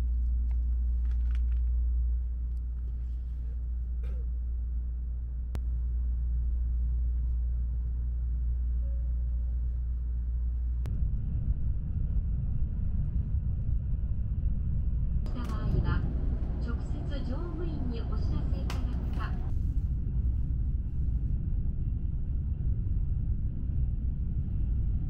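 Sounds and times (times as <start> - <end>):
train rumbling at speed: 0.0 - 25.0.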